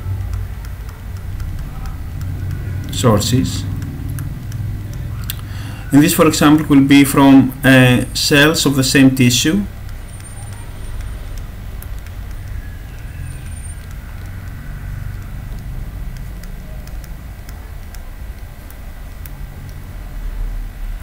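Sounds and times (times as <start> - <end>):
faint clicks: 0.0 - 7.2, 8.1 - 21.0
low background rumble: 0.0 - 21.0.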